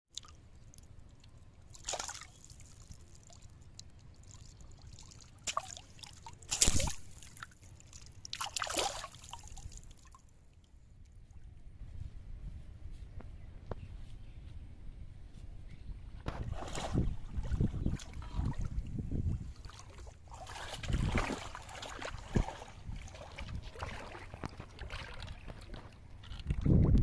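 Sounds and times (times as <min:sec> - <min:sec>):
water splashing and sloshing: 0:00.1 - 0:11.6, 0:16.2 - 0:27.0.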